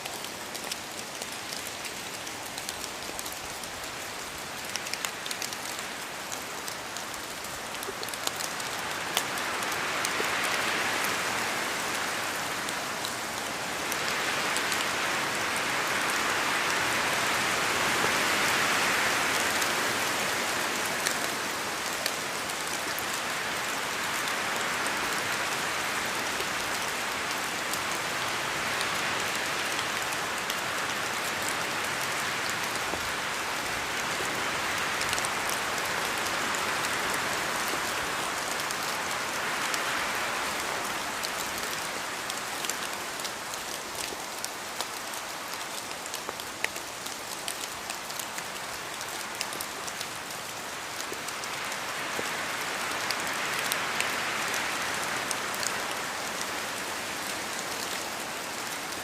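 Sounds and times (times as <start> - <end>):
rain falling through trees: 0.0 - 59.0
wind gusts through trees: 0.0 - 59.0.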